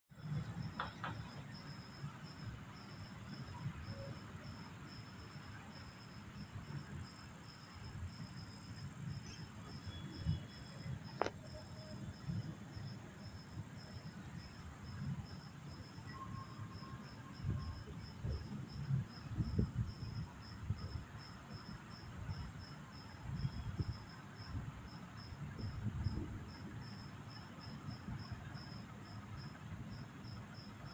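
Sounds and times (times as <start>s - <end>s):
crickets chirping: 0.2s - 30.9s.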